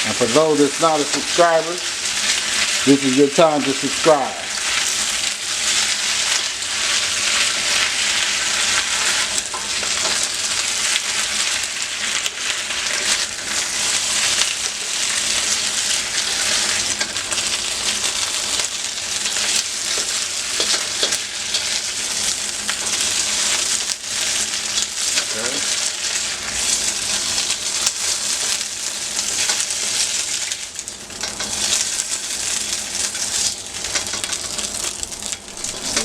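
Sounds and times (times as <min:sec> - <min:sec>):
beef sizzling in oil: 0:00.0 - 0:36.0.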